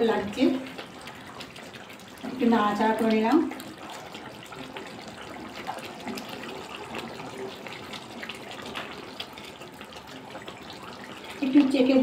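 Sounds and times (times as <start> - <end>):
gravy simmering and bubbling: 0.0 - 12.0.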